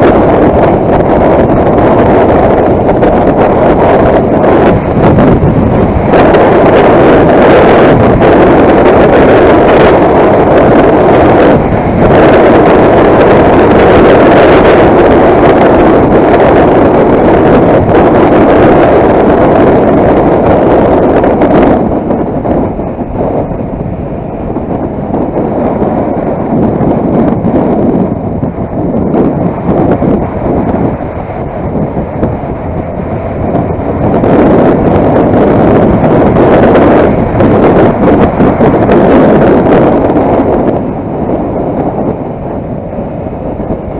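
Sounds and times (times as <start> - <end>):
loud wind roar on microphone: 0.0 - 43.9
road noise: 0.0 - 43.9.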